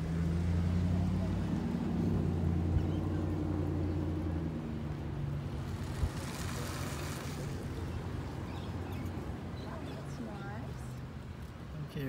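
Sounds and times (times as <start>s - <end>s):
passing engine hum: 0.0s - 11.6s.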